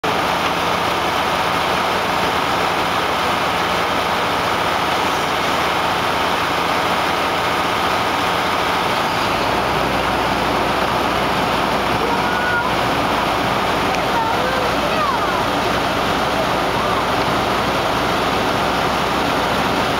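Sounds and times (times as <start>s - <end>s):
hydraulic pump running: 0.0s - 19.9s.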